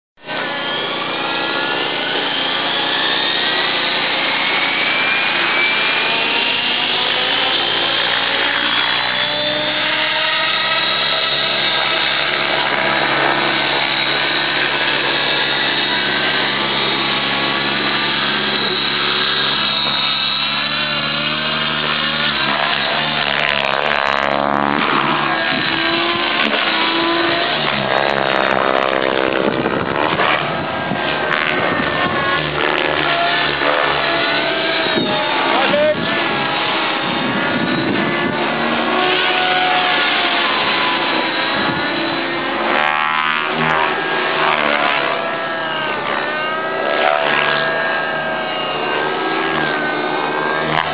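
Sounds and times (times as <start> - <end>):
rc helicopter motor whining: 0.2 - 50.9.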